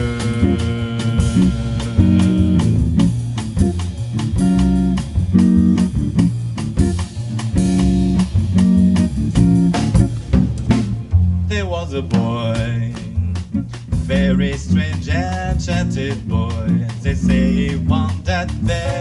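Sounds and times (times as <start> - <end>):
double bass: 0.0 - 19.0
drum kit keeping time: 0.0 - 19.0
rhythmic guitar chords: 0.0 - 19.0.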